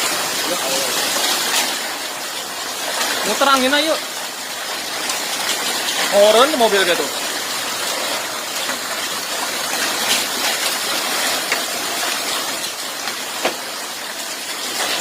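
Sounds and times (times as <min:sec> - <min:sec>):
hailstones hitting: 0:00.0 - 0:15.0
heavy rain and wind rushing: 0:00.0 - 0:15.0.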